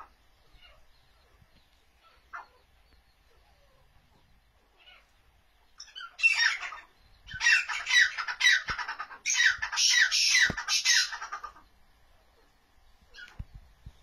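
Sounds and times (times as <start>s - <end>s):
francolins calling: 0.0s - 13.5s.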